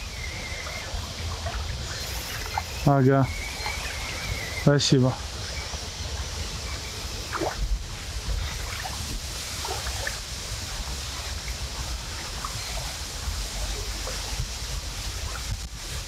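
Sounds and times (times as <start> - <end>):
small waves lapping: 0.0 - 16.0
wind buffeting microphone: 0.0 - 16.0.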